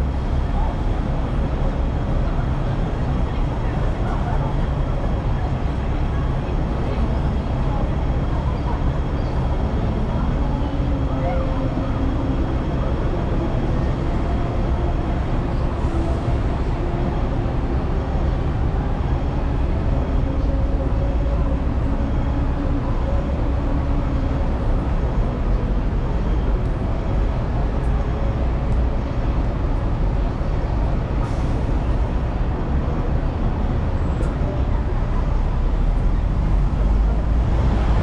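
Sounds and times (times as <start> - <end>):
tram wheels rumbling on rails: 0.0 - 38.0.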